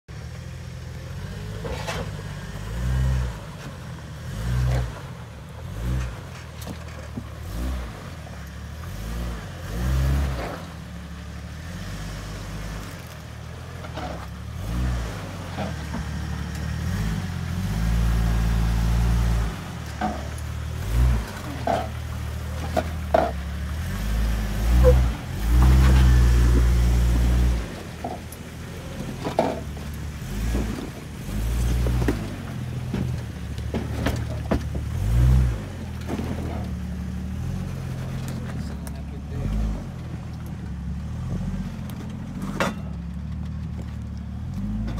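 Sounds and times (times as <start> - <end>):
engine revving at low speed: 0.2 - 44.9.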